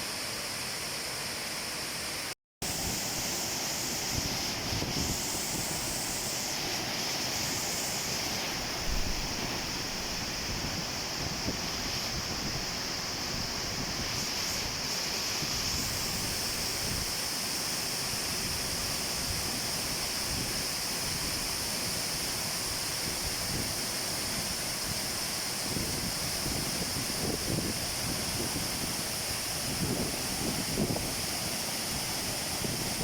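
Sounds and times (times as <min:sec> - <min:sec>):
water rushing: 0:00.0 - 0:33.0.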